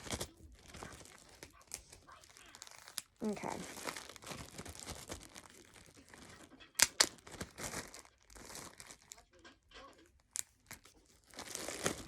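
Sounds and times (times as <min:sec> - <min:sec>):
sharp packaging snaps: 0:00.0 - 0:09.2, 0:10.2 - 0:12.0
snack packaging crinkling: 0:00.0 - 0:12.0.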